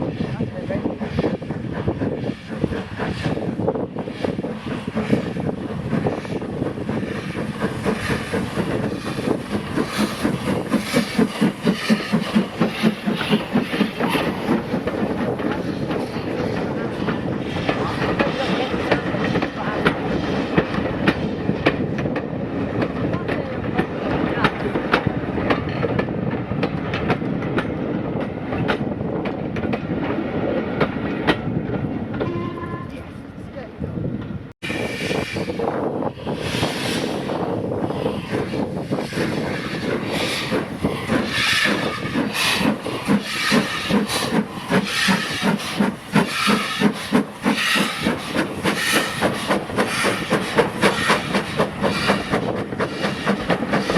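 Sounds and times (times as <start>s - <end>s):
steam locomotive chuffing: 0.0s - 33.7s, 34.6s - 53.9s
train rolling rumble: 0.0s - 53.9s.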